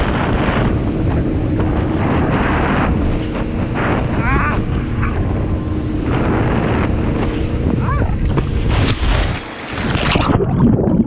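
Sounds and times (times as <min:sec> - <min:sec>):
water rushing and spraying: 0:00.0 - 0:10.6
wind buffeting microphone: 0:00.0 - 0:11.0.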